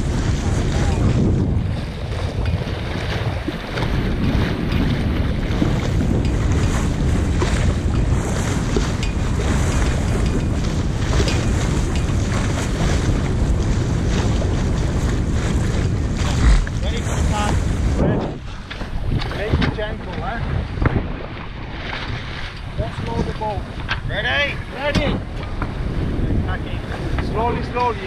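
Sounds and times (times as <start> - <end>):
water splashing along boat hull: 0.0 - 28.0
wind buffeting microphone: 0.0 - 28.0.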